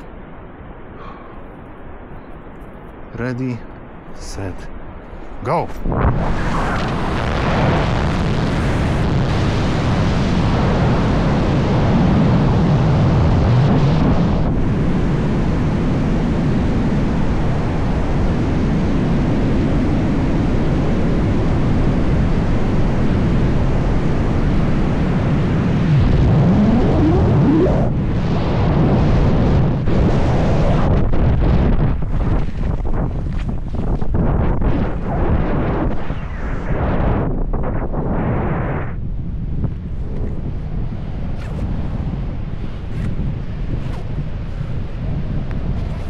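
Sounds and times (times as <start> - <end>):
roar of rushing wind: 0.0 - 2.2, 3.1 - 46.0.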